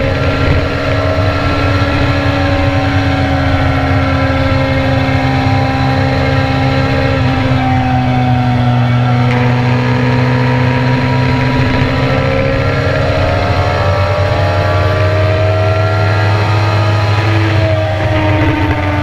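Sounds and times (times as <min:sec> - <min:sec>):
motorcycle engine droning: 0:00.0 - 0:19.0.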